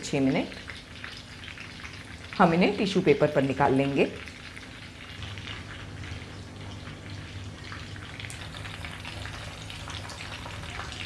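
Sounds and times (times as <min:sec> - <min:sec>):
meatballs sizzling in oil: 0:00.0 - 0:11.0.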